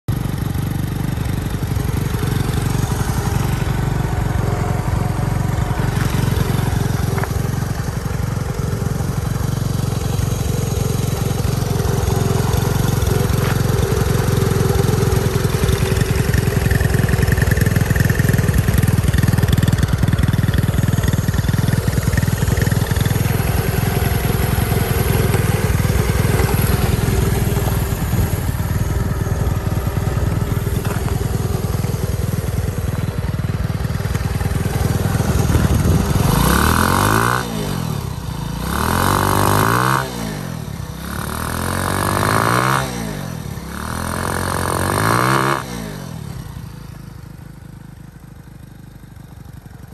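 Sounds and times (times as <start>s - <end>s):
motorcycle engine idling: 0.1s - 49.9s.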